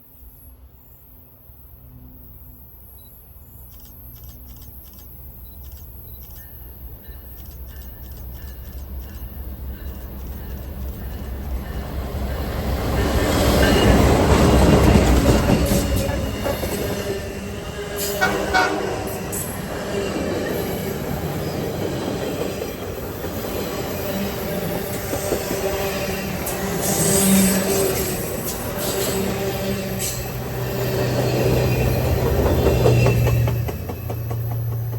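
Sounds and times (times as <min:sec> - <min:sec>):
train wheels on rails: 0:03.7 - 0:34.9
diesel locomotive rumble: 0:06.8 - 0:34.9.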